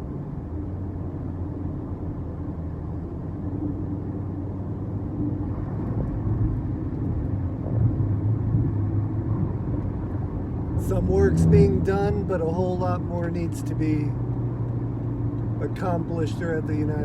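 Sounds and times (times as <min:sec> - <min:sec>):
vehicle engine and tyre rumble: 0:00.0 - 0:17.0.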